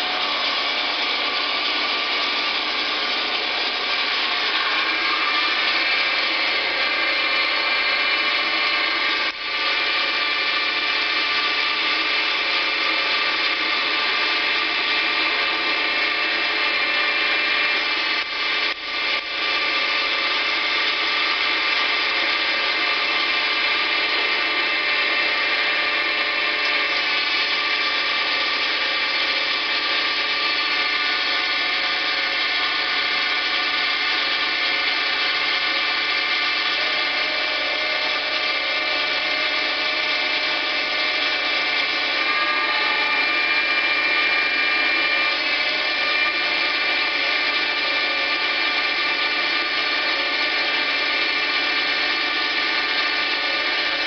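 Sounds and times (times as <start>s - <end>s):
lathe running with mechanical whine: 0.0s - 54.0s.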